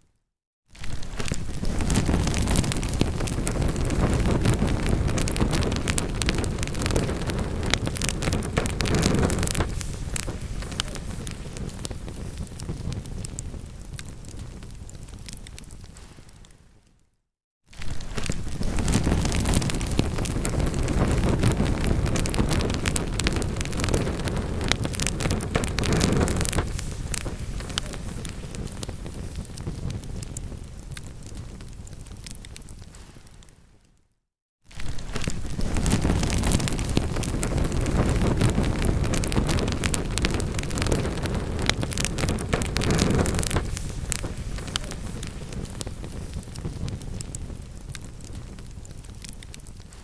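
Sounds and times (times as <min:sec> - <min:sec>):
low rumble of flame: 0:00.8 - 0:16.6, 0:17.7 - 0:33.5, 0:34.7 - 0:50.0
logs crackling and popping: 0:00.8 - 0:16.9, 0:17.7 - 0:34.0, 0:34.7 - 0:50.0.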